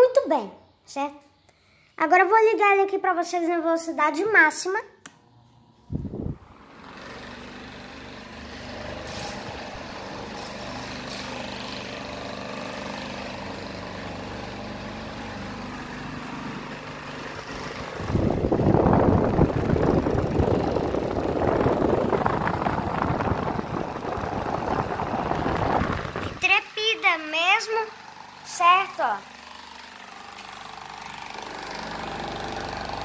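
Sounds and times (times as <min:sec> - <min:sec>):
fan motor hum: 0:05.0 - 0:33.0
fan air rushing across microphone: 0:05.5 - 0:33.0.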